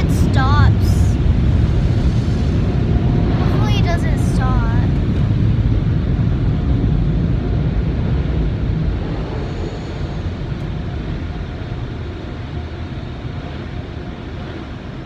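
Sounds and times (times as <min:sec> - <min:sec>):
car wash machinery roar: 0:00.0 - 0:15.0.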